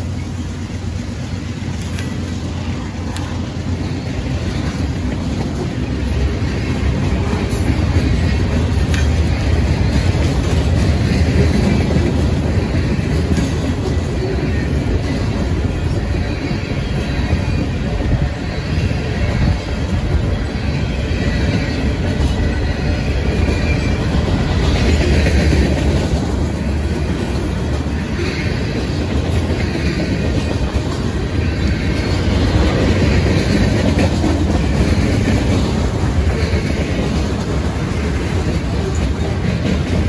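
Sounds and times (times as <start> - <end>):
freight train rumbling past: 0.0 - 40.0
high wheel squeal: 1.3 - 25.8, 26.6 - 35.5.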